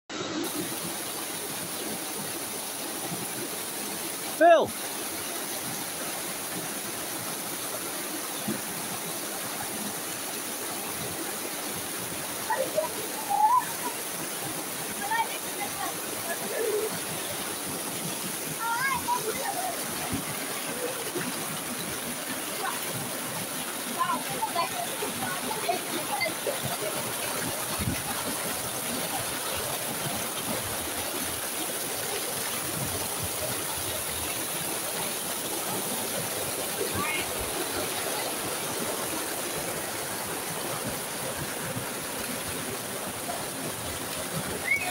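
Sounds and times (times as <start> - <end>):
river rushing over rocks: 0.1 - 44.9.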